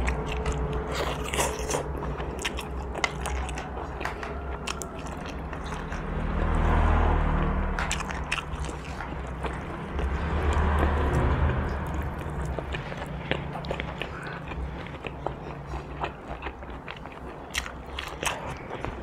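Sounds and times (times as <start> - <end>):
chewing and biting meat: 0.0 - 7.0, 7.8 - 19.0.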